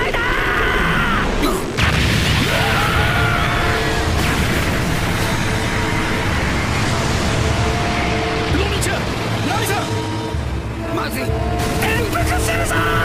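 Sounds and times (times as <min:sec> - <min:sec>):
background music: 0:00.0 - 0:13.0
low rumbling blast: 0:01.2 - 0:13.0.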